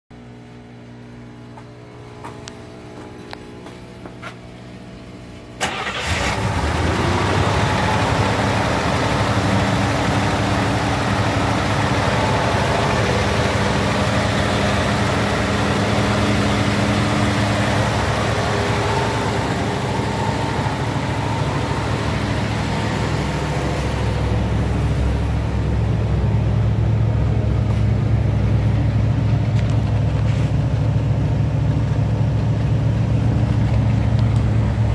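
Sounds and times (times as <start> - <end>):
low engine exhaust note: 0.2 - 34.9
car engine starting: 5.5 - 34.9.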